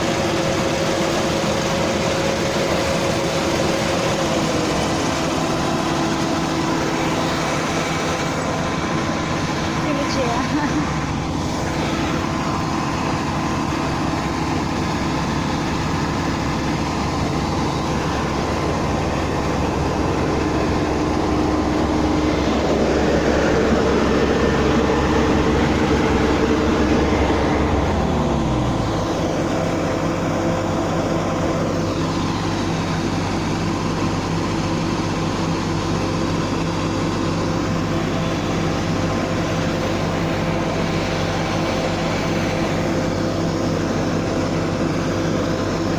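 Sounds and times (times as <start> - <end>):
combine harvester engine: 0.0 - 45.9.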